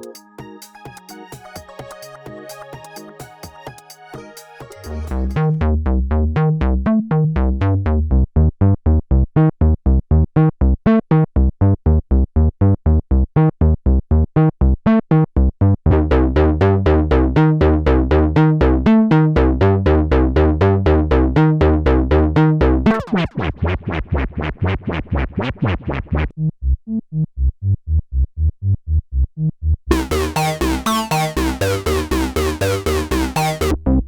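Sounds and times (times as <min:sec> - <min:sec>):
synthesizer bass sequence: 0:00.0 - 0:09.8, 0:15.9 - 0:34.0.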